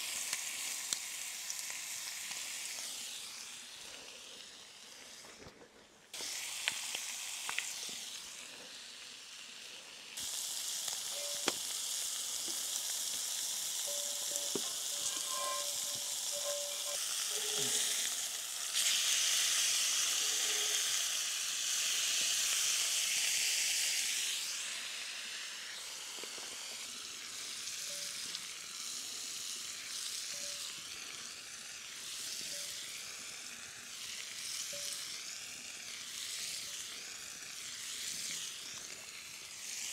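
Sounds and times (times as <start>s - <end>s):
steak sizzling in a pan: 0.0s - 5.4s, 6.1s - 39.9s.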